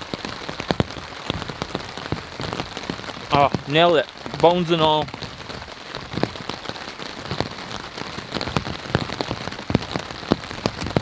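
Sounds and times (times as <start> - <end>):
raindrops tapping close by: 0.0 - 11.0
steady rain: 0.0 - 11.0.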